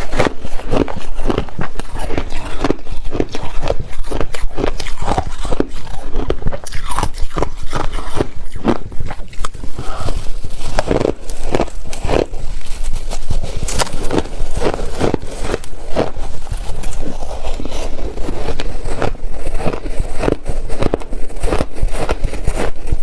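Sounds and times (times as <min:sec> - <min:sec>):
person chewing ice: 0:00.0 - 0:23.0.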